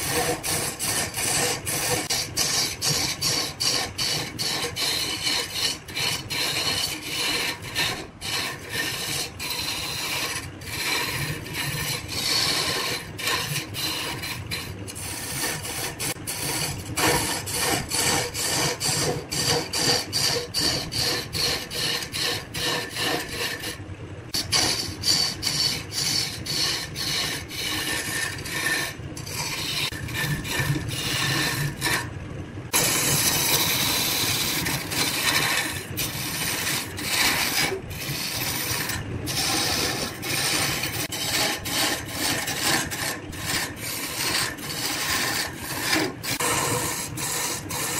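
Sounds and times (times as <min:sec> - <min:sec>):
chisel scraping spinning wood: 0:00.0 - 0:47.9.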